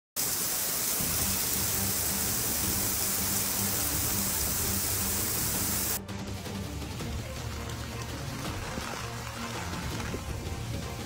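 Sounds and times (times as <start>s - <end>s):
heavy rain pouring: 0.2s - 11.0s.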